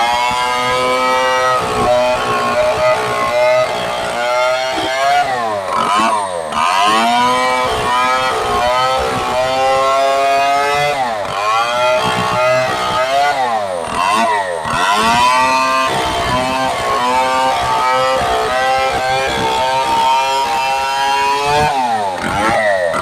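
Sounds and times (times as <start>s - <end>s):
chainsaw running at high revs: 0.0s - 23.0s.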